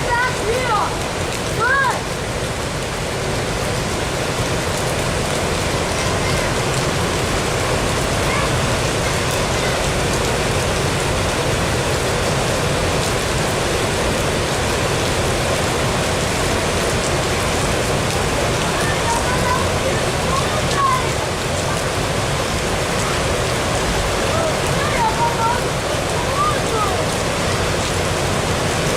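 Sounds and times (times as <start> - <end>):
rushing water: 0.0 - 28.9.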